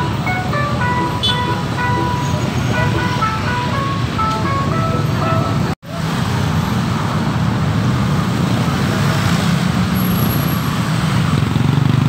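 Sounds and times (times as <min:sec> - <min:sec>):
car engines passing: 0:00.0 - 0:12.0
motorcycle engines passing: 0:00.0 - 0:12.0.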